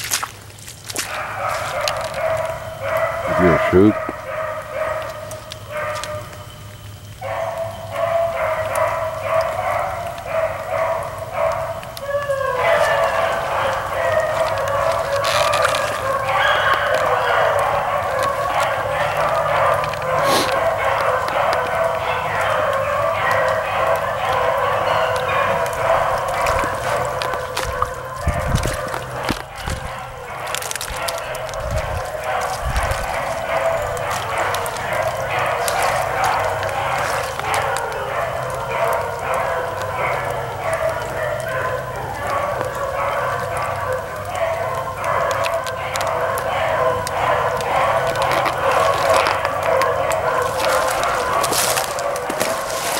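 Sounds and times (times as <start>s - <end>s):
hounds baying: 0.9s - 52.9s.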